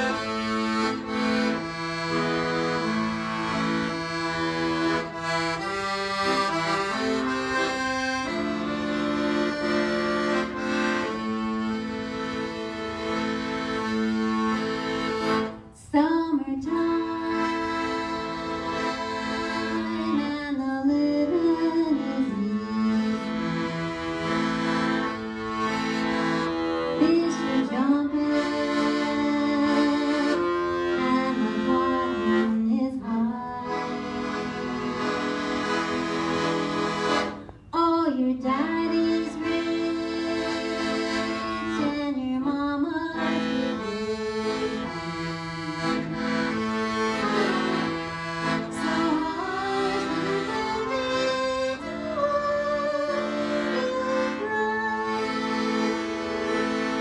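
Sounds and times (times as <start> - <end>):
accordion playing jazzy melody: 0.0 - 57.0.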